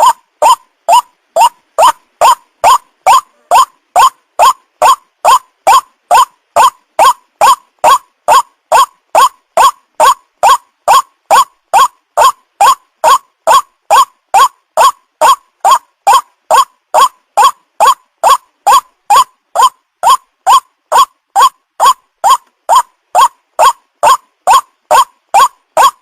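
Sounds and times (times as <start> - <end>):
waterhen call: 0.0 - 26.0.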